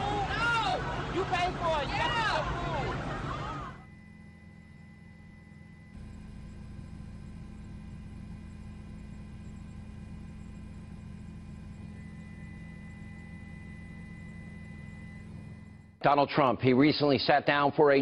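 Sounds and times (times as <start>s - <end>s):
steady low hum: 0.0s - 16.0s
faint thin steady tones: 0.2s - 16.0s.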